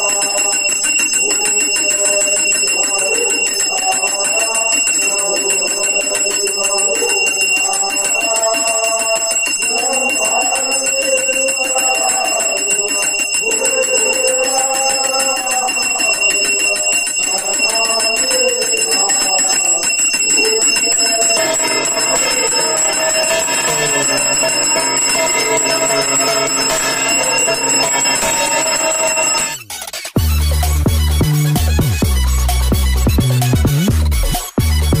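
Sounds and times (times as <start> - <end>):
man chanting over a microphone: 0.0 - 29.5
brass hand bell ringing: 0.0 - 29.6.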